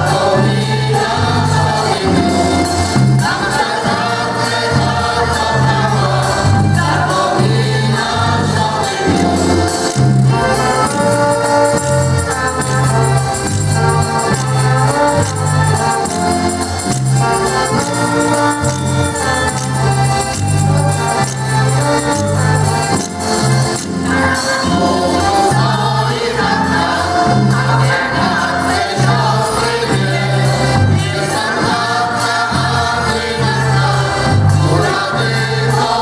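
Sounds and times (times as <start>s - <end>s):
accordion: 0.0s - 36.0s
mixed choir singing: 0.0s - 36.0s.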